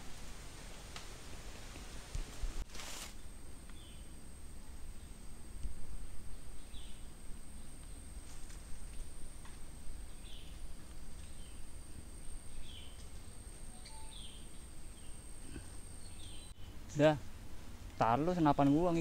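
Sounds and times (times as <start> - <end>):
high-pitched insect whine: 2.6 - 19.0.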